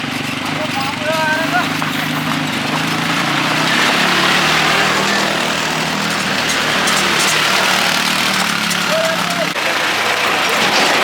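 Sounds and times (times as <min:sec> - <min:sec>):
vehicle engine running: 0:00.0 - 0:11.0
loud rushing noise: 0:01.4 - 0:11.0.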